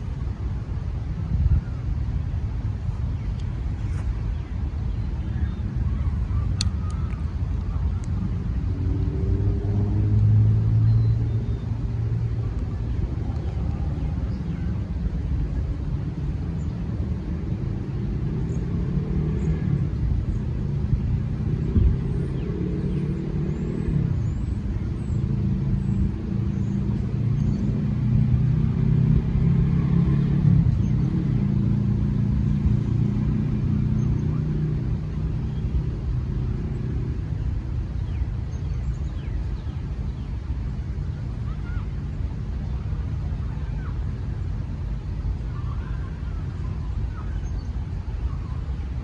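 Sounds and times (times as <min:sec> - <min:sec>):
traffic rumble: 0:00.0 - 0:49.0.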